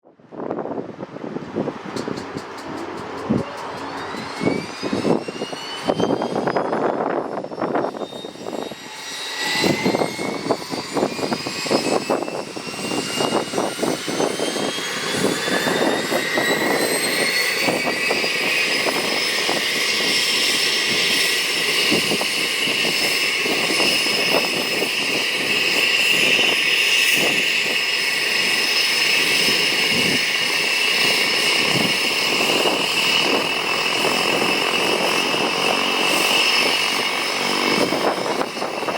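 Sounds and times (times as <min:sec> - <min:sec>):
turboprop engine whine: 0:00.0 - 0:38.9
propeller noise: 0:00.1 - 0:38.9.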